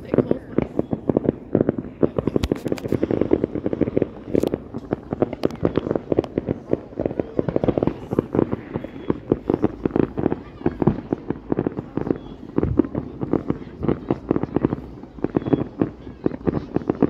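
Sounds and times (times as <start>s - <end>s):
distant fireworks popping and cracking: 0.0s - 17.0s.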